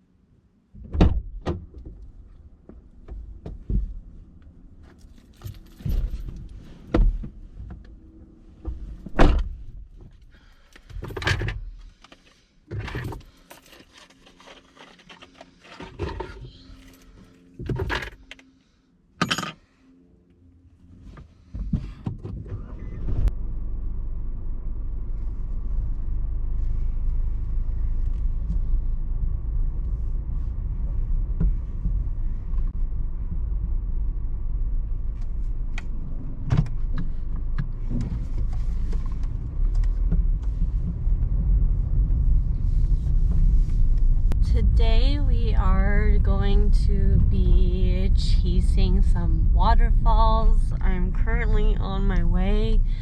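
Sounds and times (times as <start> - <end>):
car engine starting and running: 0.6 - 53.0.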